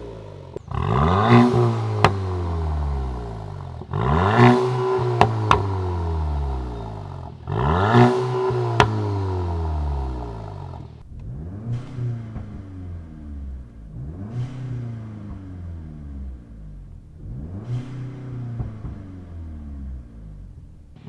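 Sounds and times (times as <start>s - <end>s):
car engine revving: 0.0s - 21.0s
exhaust crack: 0.0s - 21.0s.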